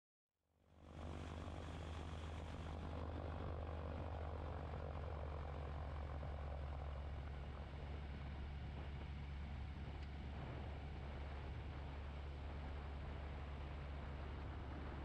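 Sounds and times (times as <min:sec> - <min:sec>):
microlight engine and propeller droning: 0:00.6 - 0:15.0.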